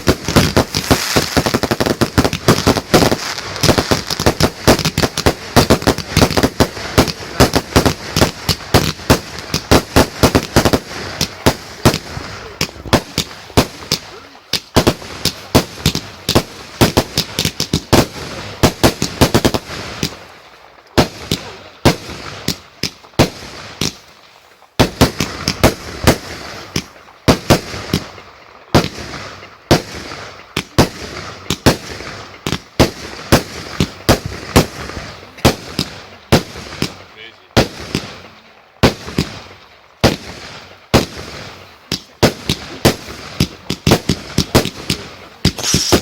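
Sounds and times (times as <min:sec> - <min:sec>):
firework shell bursts and bangs: 0:00.0 - 0:46.0
fireworks crackling: 0:00.0 - 0:46.0.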